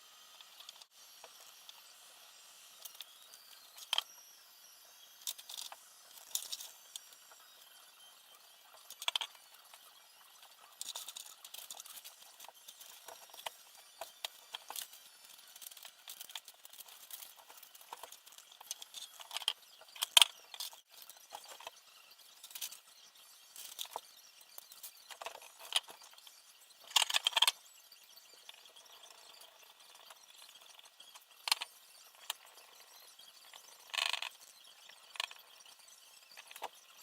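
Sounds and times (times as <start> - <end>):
small parts and tools clicking: 0.2 - 37.0.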